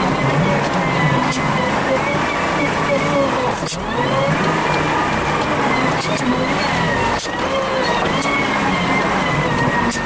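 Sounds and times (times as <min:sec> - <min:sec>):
wheel loader diesel engine working: 0:00.0 - 0:10.0.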